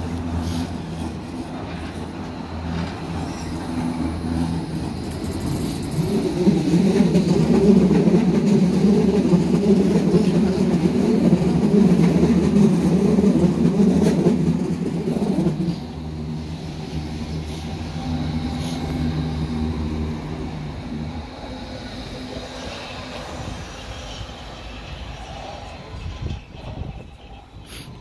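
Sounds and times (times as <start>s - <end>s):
subway train rumbling past: 0.0s - 28.0s.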